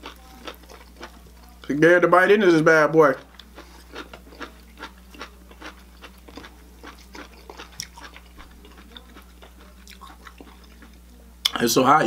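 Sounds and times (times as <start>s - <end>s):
person chewing food: 0.0s - 1.7s, 3.1s - 11.6s
steady low hum: 0.0s - 12.0s.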